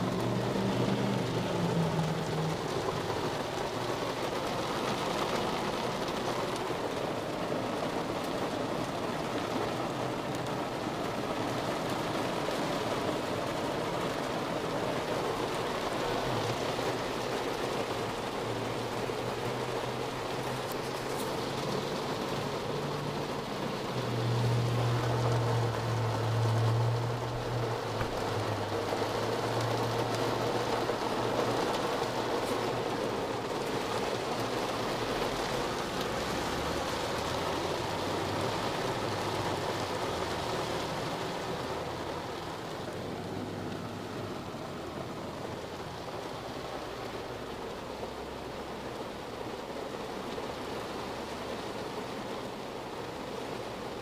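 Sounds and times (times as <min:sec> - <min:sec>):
heavy rain on car roof: 0:00.0 - 0:54.0.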